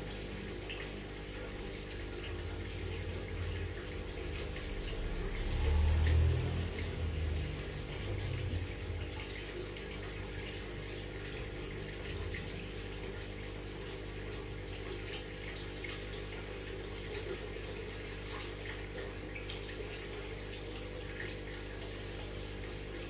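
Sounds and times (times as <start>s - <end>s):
pump humming: 0.0s - 23.0s
water trickling and splashing: 0.0s - 23.0s.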